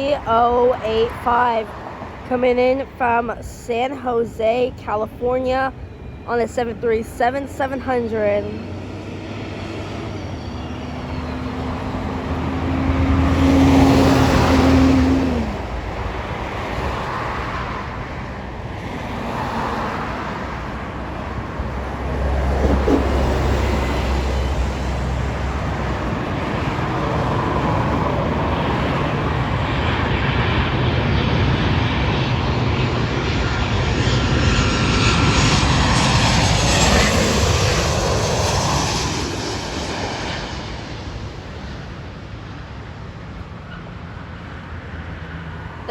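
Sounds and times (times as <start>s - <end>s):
jet rumble and rush: 0.0s - 43.4s
jet engines whining: 0.0s - 45.9s.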